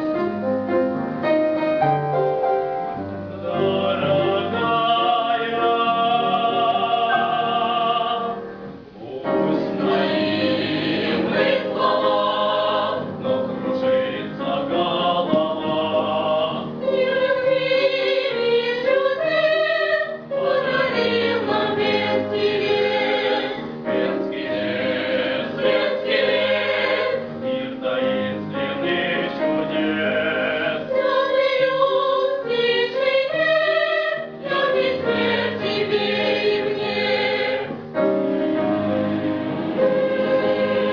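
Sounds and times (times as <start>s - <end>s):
musical accompaniment: 0.0s - 40.9s
vocal ensemble singing in harmony: 3.2s - 40.9s.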